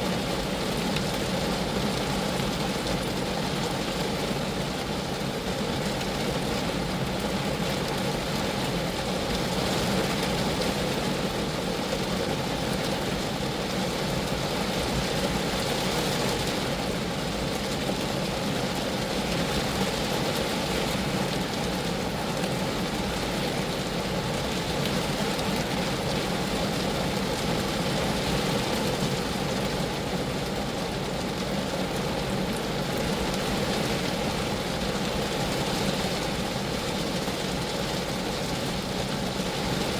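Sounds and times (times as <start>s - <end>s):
rain on a car body: 0.0s - 39.9s.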